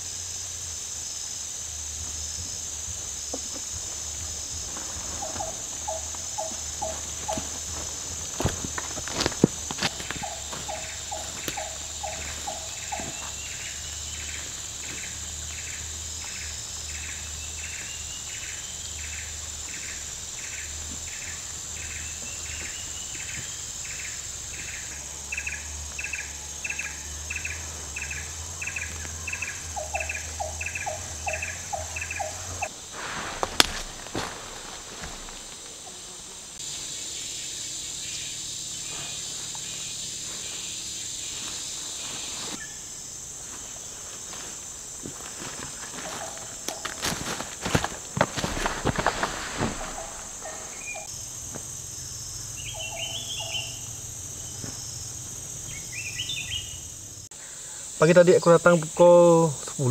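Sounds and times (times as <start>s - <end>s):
insect buzz: 0.0s - 59.9s
rhythmic insect chirping: 0.0s - 59.9s.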